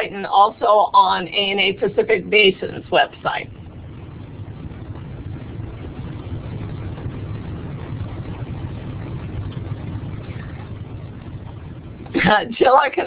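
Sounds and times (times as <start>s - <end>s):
low rumble of line noise: 0.0s - 13.0s.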